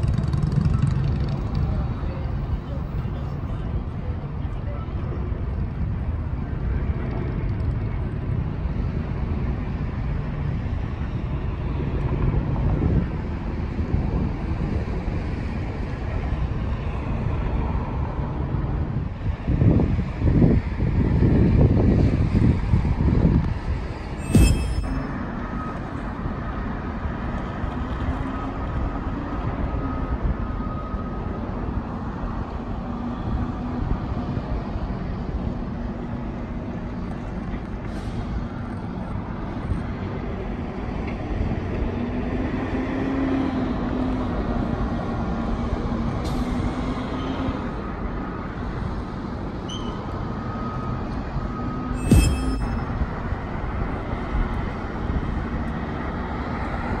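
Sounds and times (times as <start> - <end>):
passing road vehicles: 0.0 - 57.0.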